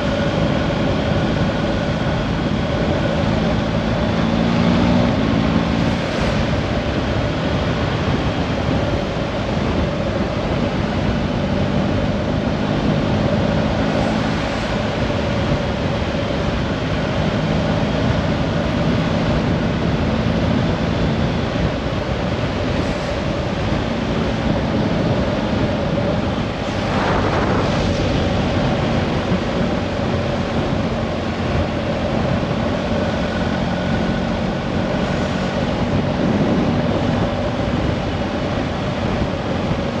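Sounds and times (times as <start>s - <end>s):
engine hum: 0.0s - 40.0s
rushing noise: 0.0s - 40.0s.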